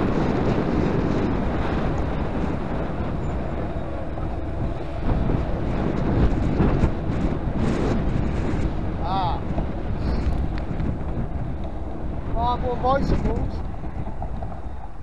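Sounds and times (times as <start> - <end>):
road traffic noise: 0.0 - 15.0
wind buffeting microphone: 0.0 - 15.0.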